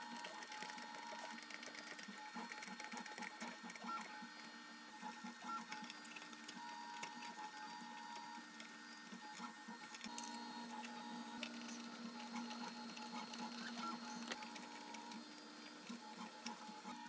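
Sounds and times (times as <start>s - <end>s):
small machine whirring: 0.0s - 17.0s.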